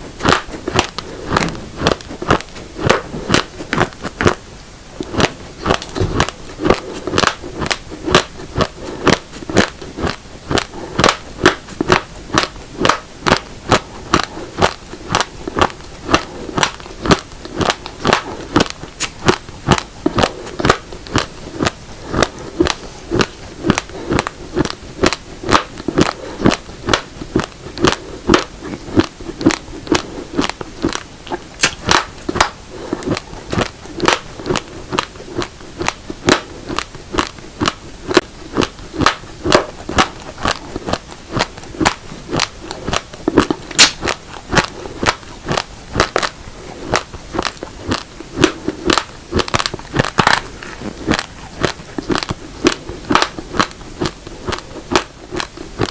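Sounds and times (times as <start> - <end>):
chewing crunchy rice grains: 0.0 - 55.9.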